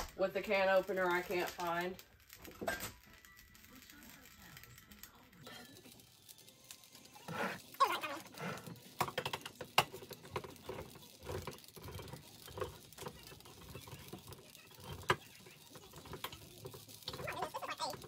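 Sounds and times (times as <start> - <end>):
kitchen items clicking and rustling: 0.0 - 18.0.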